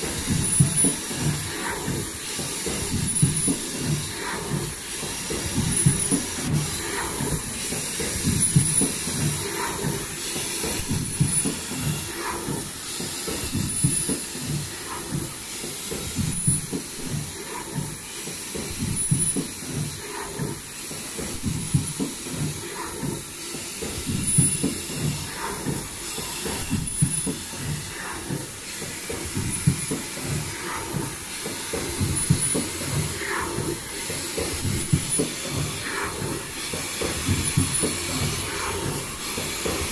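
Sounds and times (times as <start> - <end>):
machine rhythmic mechanical clatter: 0.0 - 39.9.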